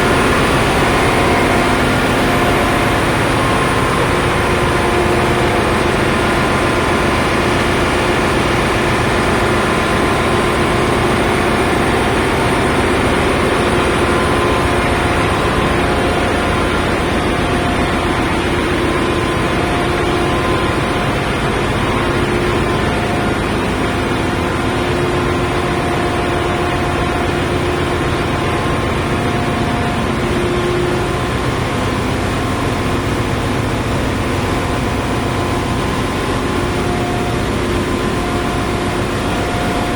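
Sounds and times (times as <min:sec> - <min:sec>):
engine room machinery din: 0:00.0 - 0:39.9.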